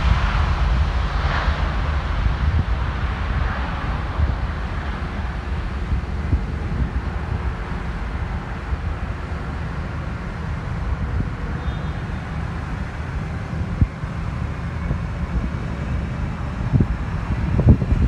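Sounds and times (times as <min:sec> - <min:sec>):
jet engines low rumble: 0:00.0 - 0:18.0
wind buffeting microphone: 0:00.0 - 0:18.0.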